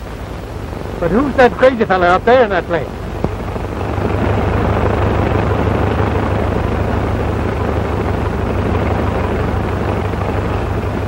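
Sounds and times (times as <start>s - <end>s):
biplane propeller engine: 0.0s - 11.0s.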